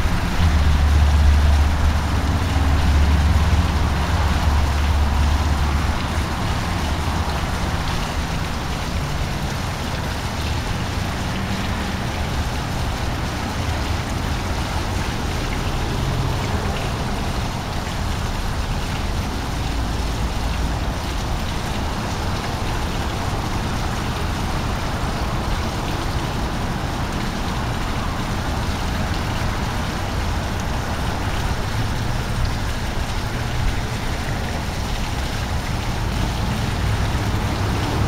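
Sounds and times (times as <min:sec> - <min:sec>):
fountain water splashing: 0:00.0 - 0:38.0.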